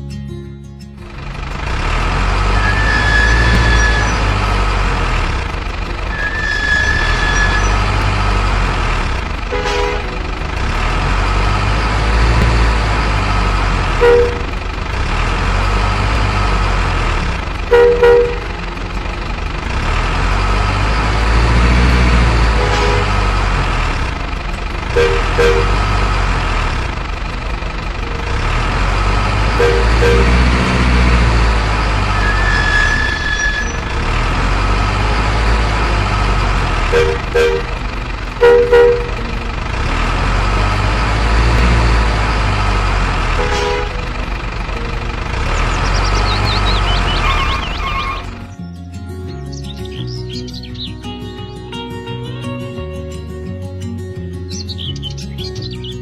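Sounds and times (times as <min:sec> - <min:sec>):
truck engine rumbling: 0:00.0 - 0:56.0
two-tone horn honks: 0:01.2 - 0:48.5.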